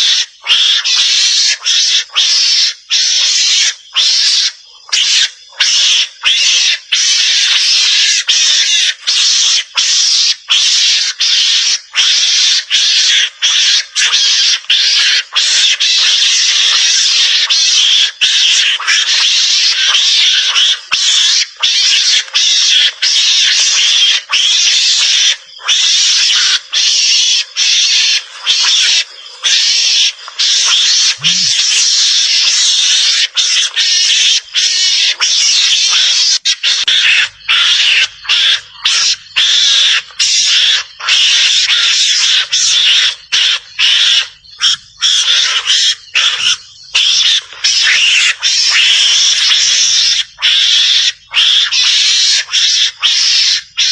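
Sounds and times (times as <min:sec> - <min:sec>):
harsh hissy chattering calls: 0:00.0 - 0:53.9.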